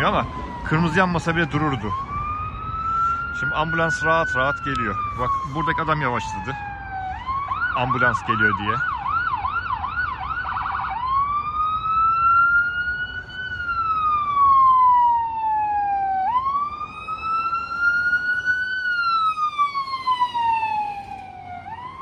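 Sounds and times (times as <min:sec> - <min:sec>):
ambulance siren yelp and wail: 0:00.0 - 0:22.0
traffic noise: 0:00.0 - 0:22.0.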